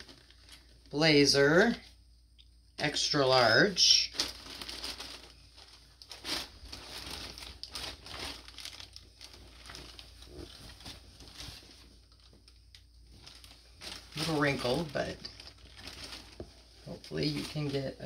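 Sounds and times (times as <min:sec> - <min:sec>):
plastic bag crinkling: 0:00.0 - 0:01.0, 0:02.9 - 0:18.0.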